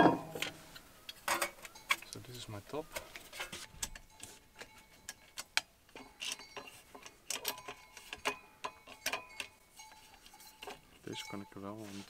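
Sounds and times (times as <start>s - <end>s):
metal pipes clinking and tapping: 0.0s - 12.0s.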